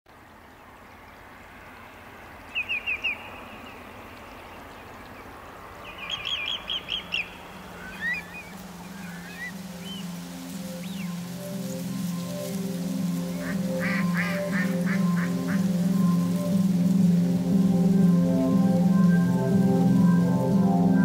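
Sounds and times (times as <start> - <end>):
estuary background hiss: 0.2 - 21.0
wading birds calling: 0.7 - 21.0.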